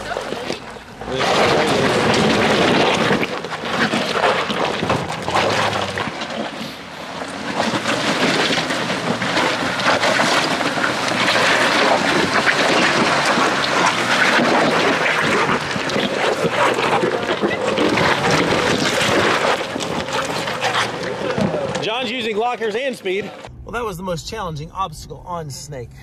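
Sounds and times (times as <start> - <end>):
dense crackling noise: 0.0 - 26.0
off-road vehicle engine under load: 0.0 - 26.0.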